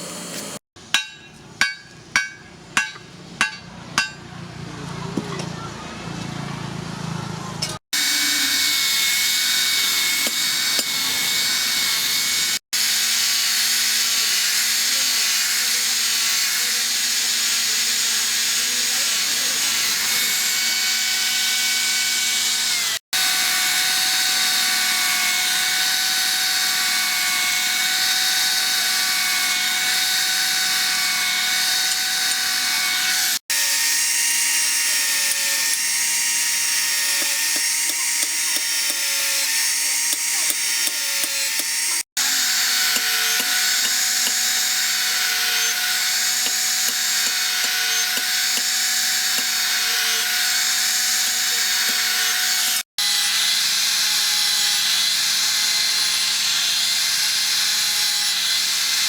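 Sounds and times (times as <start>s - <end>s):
power tool grinding: 0.0s - 4.2s, 7.6s - 59.0s.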